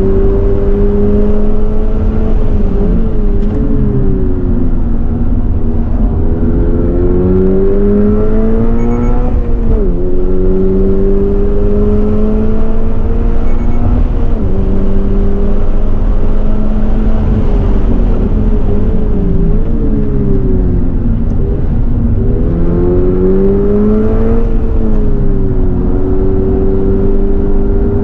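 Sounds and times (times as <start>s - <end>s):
car engine revving: 0.0s - 28.0s
road and wind noise: 0.0s - 28.0s.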